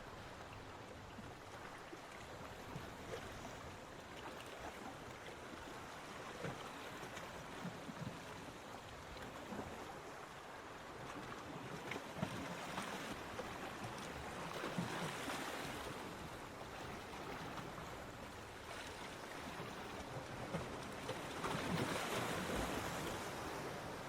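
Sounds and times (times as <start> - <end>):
ocean waves breaking on beach: 0.0 - 24.0.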